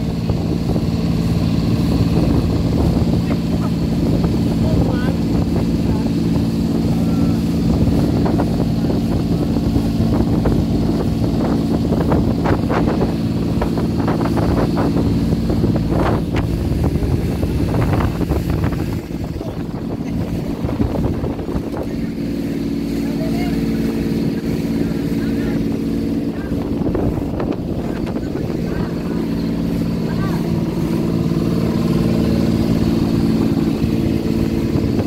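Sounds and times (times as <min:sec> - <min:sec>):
boat engine droning: 0:00.0 - 0:35.0
water splashing along hull: 0:00.0 - 0:35.0.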